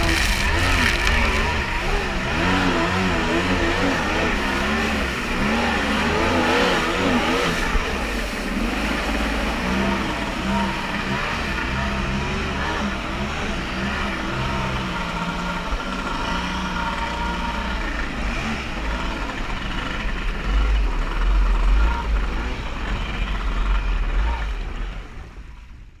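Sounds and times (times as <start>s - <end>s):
jet ski engine running: 0.0s - 26.0s.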